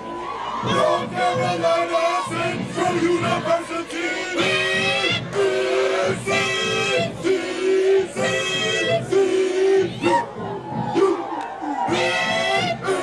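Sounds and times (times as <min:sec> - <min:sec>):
group of voices chanting: 0:00.5 - 0:13.0.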